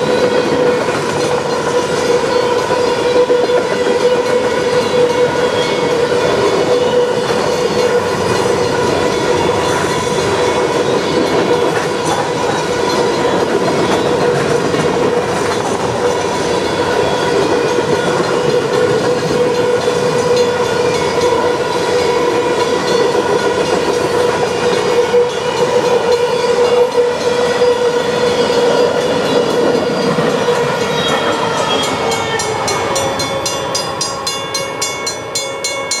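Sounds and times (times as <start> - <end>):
freight train rumble and wheels: 0.0 - 36.0.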